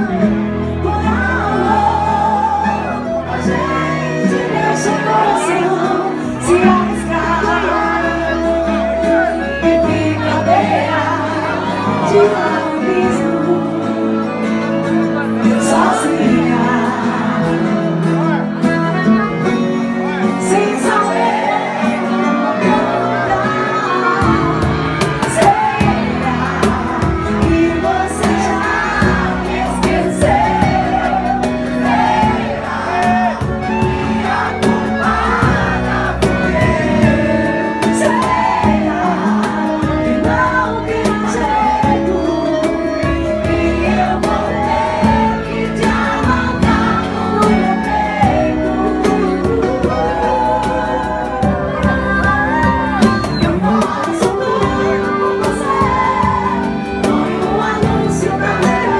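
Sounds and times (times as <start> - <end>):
live band playing drums and guitar: 0.0 - 58.9
woman singing into a microphone: 0.0 - 58.9.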